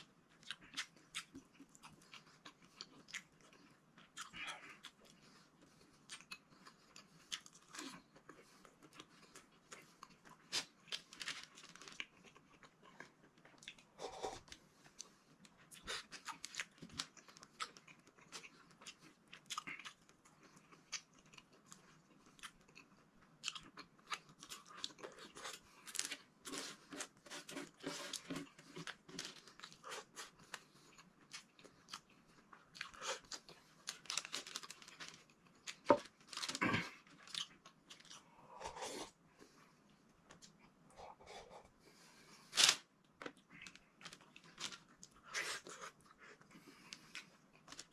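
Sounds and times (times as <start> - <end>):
person chewing crunchy food: 0.0 - 39.5.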